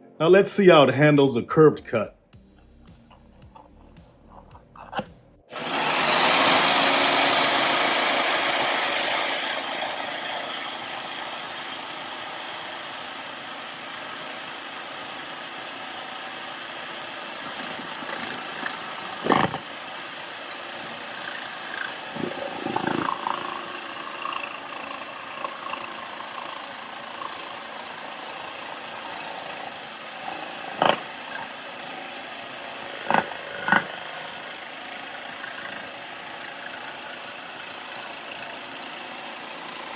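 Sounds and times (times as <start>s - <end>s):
jigsaw cutting: 2.9s - 39.9s.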